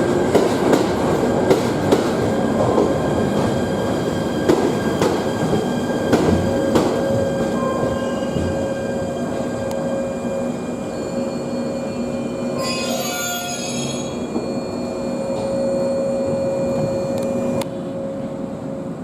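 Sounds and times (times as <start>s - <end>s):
train wheels squealing on rails: 1.9s - 18.5s.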